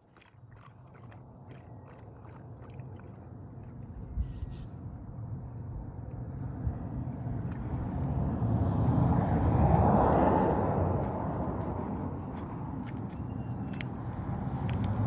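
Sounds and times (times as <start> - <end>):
road vehicle passing by: 1.1 - 15.0.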